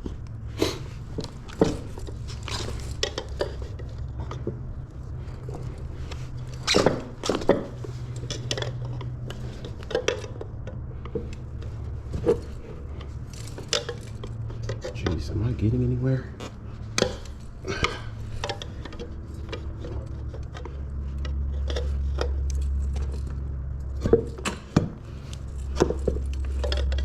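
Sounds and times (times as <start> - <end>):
low steady hum: 0.0 - 27.0
tire levers scraping wheel rim: 0.0 - 27.0.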